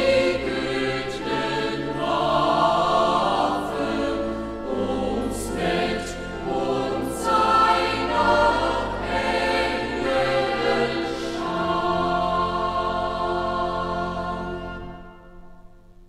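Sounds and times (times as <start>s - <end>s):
choir singing a chorale: 0.0s - 15.8s.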